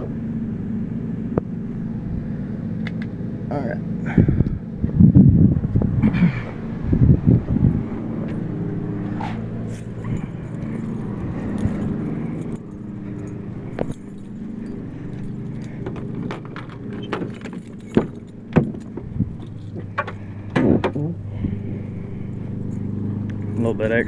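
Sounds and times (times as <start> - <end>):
deep truck engine idling: 0.0 - 24.0.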